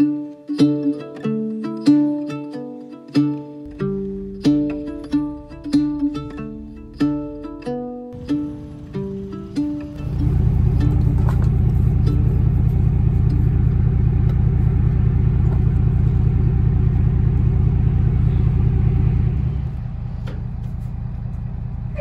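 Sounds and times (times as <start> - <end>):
truck engine idling: 3.6 - 22.0.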